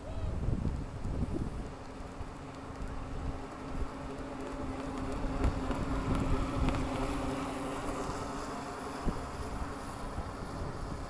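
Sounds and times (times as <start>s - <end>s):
rc boat motor buzzing: 2.0s - 11.0s.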